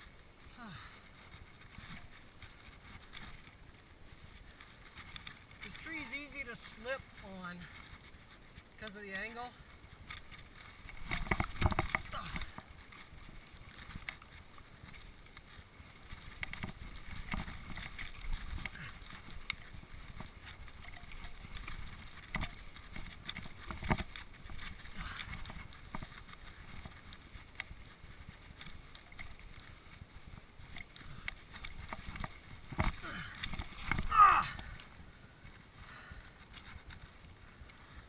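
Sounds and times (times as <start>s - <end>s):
bike rattling over roots: 0.0s - 38.0s
bike tyres rumbling on dirt trail: 0.0s - 38.0s.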